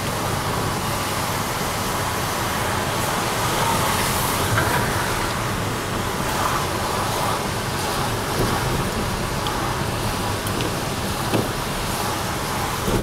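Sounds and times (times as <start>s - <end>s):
car road noise: 0.0s - 13.0s
surrounding traffic: 0.0s - 13.0s
tyres on wet street: 0.0s - 13.0s.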